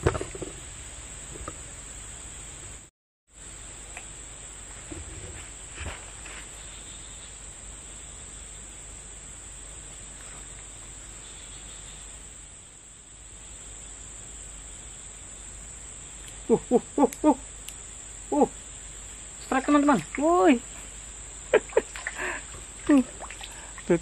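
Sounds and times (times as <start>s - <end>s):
insects chirring: 0.0s - 2.8s, 3.4s - 24.0s.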